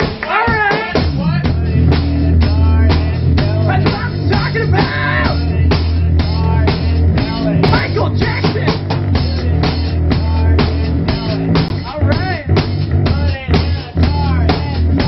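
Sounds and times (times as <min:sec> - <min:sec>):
drum kit beat: 0:00.0 - 0:15.0
rock song: 0:00.0 - 0:15.0.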